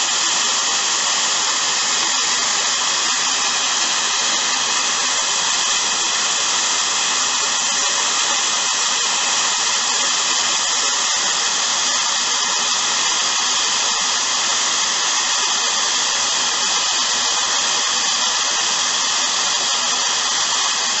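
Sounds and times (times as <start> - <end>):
vacuum cleaner hissing whine: 0.0 - 21.0.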